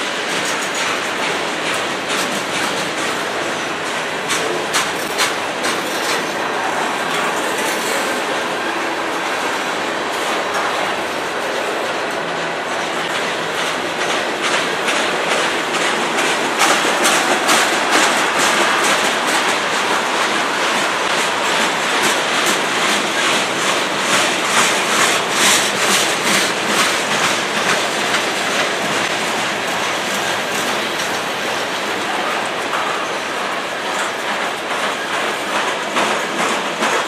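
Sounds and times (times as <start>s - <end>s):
clickety-clack over rail joints: 0.0s - 37.0s.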